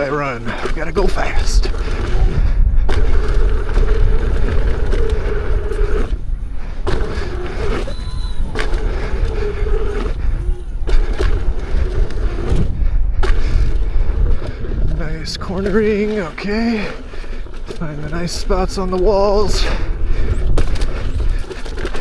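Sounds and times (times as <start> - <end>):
tyre rumble on dirt: 0.0 - 22.0
wind buffeting microphone: 0.0 - 22.0.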